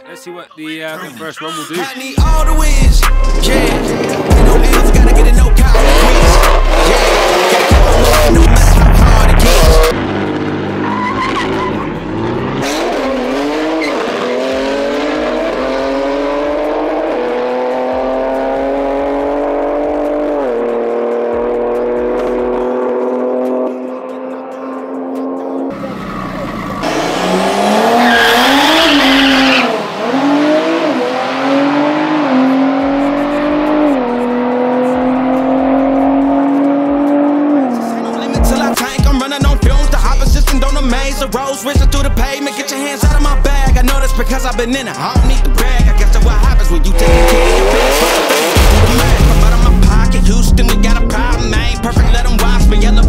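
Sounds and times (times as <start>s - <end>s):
drag car engines accelerating: 2.6s - 39.0s, 44.1s - 53.0s.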